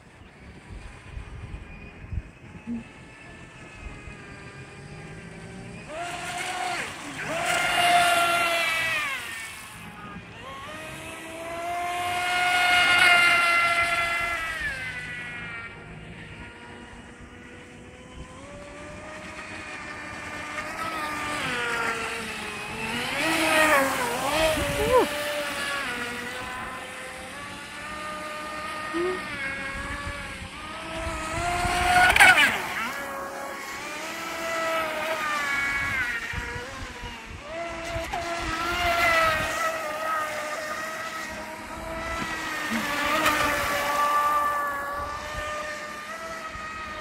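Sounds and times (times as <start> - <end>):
rc boat motor whining: 0.0 - 47.0.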